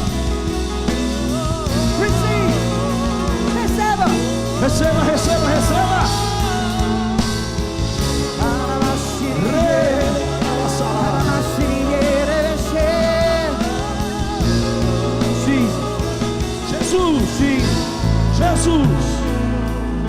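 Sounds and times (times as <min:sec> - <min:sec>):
keyboard and bass: 0:00.0 - 0:20.0
people singing worship music: 0:00.0 - 0:20.0.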